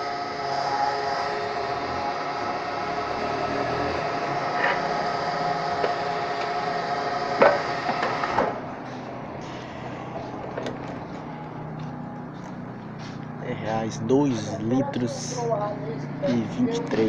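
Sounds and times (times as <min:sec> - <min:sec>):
petrol pump whining: 0:00.0 - 0:17.0.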